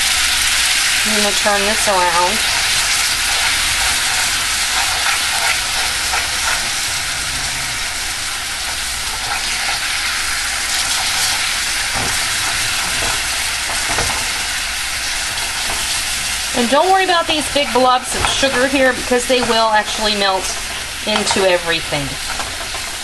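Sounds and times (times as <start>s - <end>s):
fruit sizzling in caramel: 0.0s - 23.0s.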